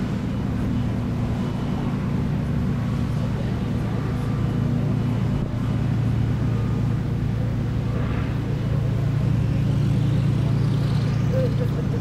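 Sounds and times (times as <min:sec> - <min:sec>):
propeller churning wake: 0:00.0 - 0:12.0
ship engine rumble: 0:00.0 - 0:12.0.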